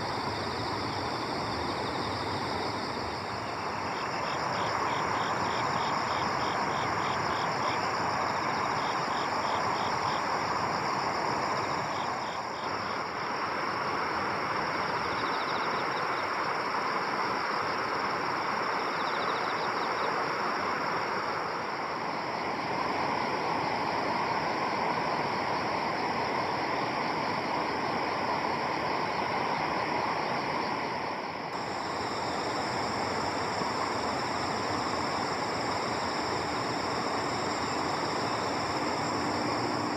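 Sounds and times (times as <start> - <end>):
insects fast pulsed chirps: 0.0 - 39.9
insects trilling: 0.0 - 39.9
steady rushing outdoor noise: 0.0 - 39.9.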